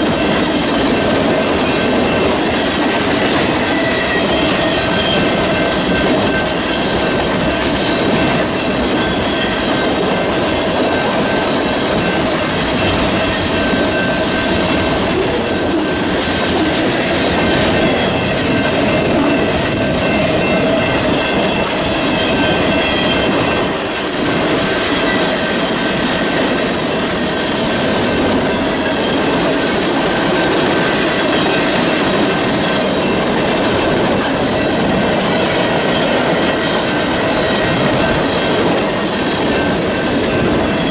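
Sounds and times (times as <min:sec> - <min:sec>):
wheel squeal: 0:00.0 - 0:10.2, 0:10.8 - 0:40.9
train wheels clicking over rail joints: 0:00.0 - 0:40.9.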